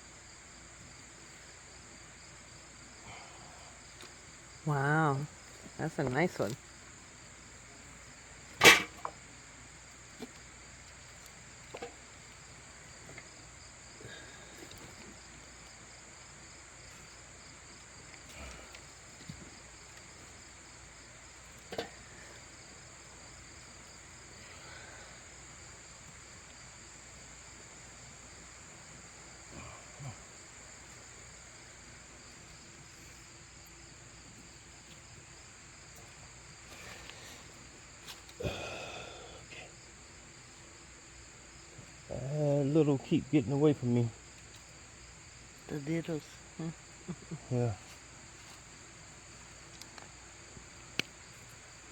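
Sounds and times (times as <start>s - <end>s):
crickets and insects chirping: 0.0s - 51.9s.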